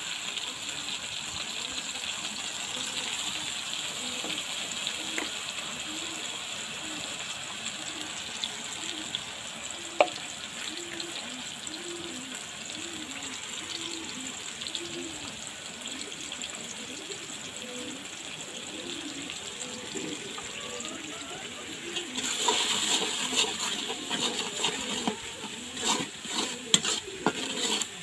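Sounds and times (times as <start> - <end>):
oil sizzling: 0.0 - 28.0.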